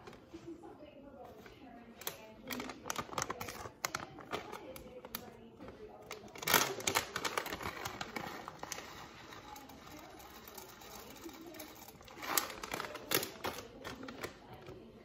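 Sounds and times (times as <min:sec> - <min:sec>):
plastic pouches crinkling: 0:01.9 - 0:15.0.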